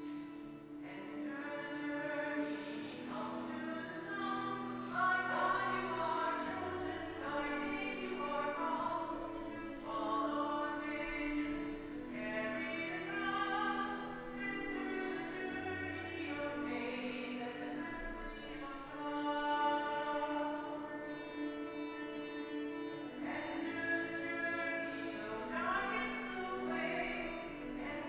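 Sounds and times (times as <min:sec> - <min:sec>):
hymn singing: 0:00.0 - 0:28.0.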